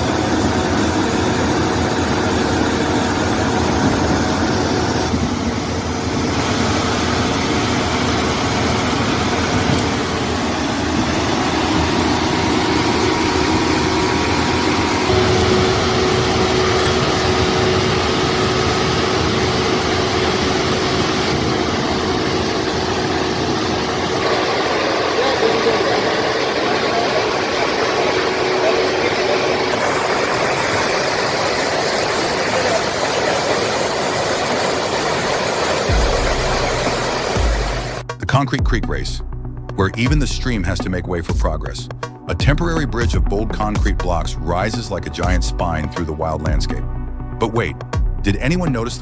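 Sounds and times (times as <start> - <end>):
excavator engine running: 0.0 - 49.0.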